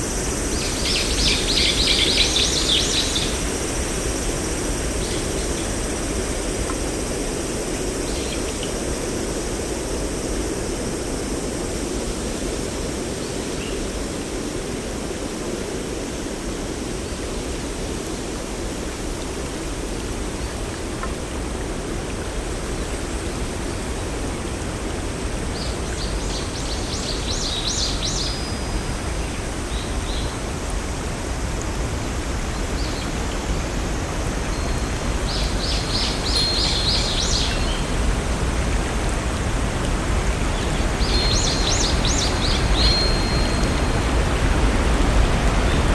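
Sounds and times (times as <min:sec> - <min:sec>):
flowing water rushing: 0:00.4 - 0:45.9.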